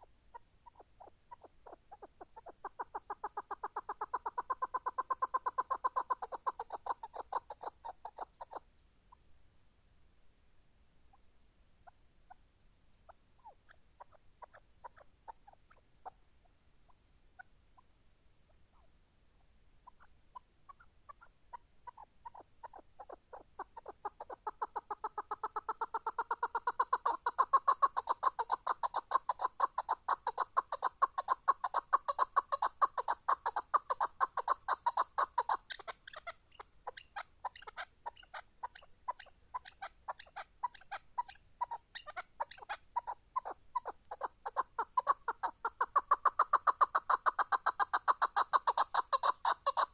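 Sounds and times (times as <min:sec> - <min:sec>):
partridge clucking calls: 0:00.0 - 0:08.8, 0:11.8 - 0:17.9, 0:19.8 - 0:49.9.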